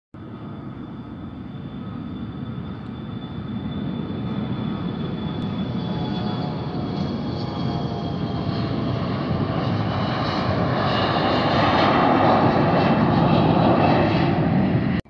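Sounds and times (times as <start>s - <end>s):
jet engines whining: 0.2s - 15.0s.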